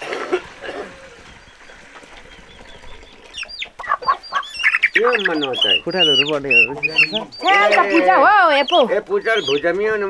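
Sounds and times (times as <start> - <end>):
chickens clucking and squawking: 0.0 - 10.0.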